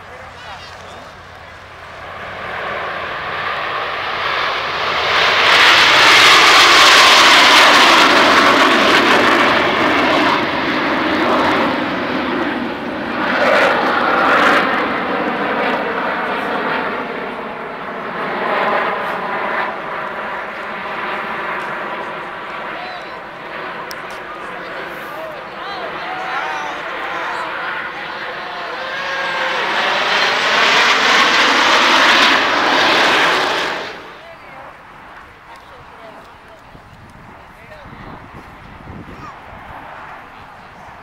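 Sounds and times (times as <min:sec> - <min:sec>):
jet aircraft rushing past: 0:00.0 - 0:41.0.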